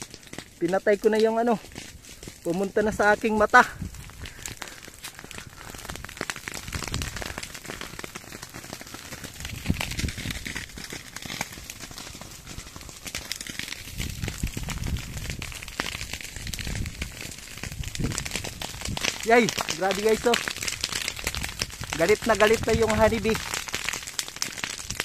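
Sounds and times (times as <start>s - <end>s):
dry vegetation crackling: 0.0s - 25.0s.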